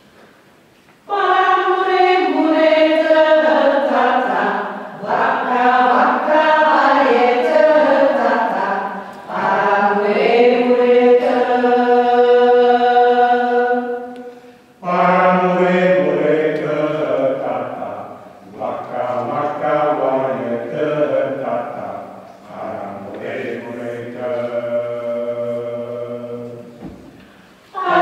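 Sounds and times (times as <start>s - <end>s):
mixed choir singing: 1.1s - 28.0s.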